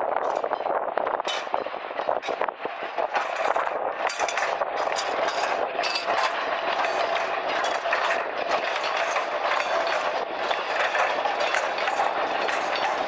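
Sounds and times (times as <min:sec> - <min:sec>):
moving train rumble: 0:00.0 - 0:13.0
train wheels clicking on rails: 0:00.2 - 0:13.0.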